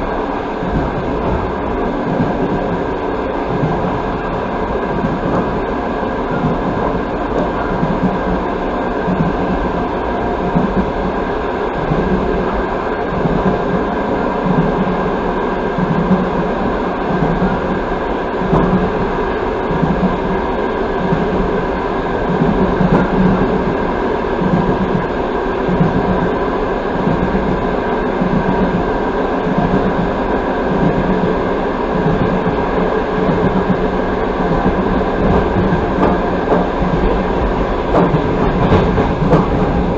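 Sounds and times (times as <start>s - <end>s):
train wheel and track noise: 0.0s - 39.9s.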